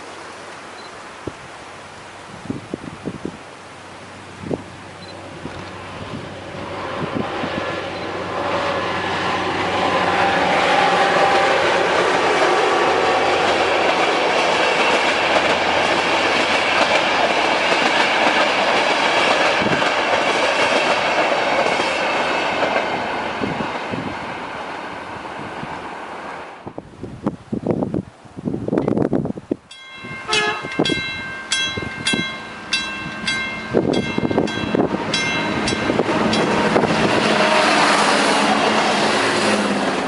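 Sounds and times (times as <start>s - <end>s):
passenger train passing: 3.4s - 40.0s.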